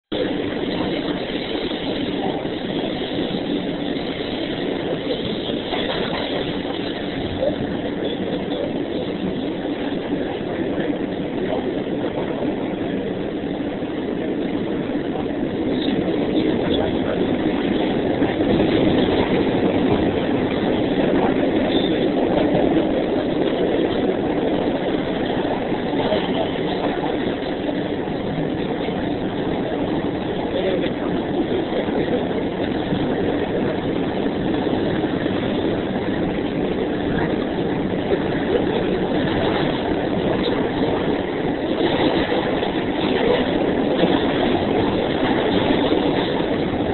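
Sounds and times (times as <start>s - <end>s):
train rumble and rattle: 0.0s - 46.9s.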